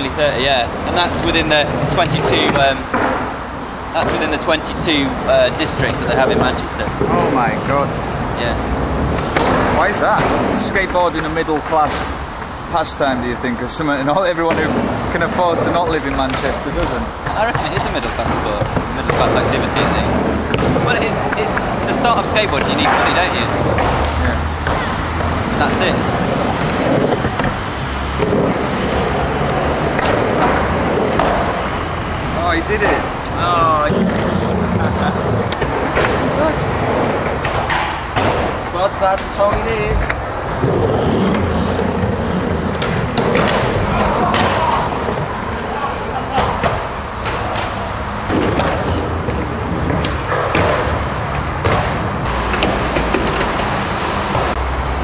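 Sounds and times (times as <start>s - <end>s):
skateboard rolling on concrete: 0.0s - 55.0s.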